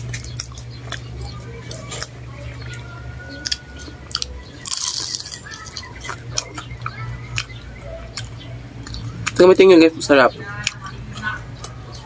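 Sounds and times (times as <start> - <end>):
chewing and crunching fried food: 0.0 - 12.0.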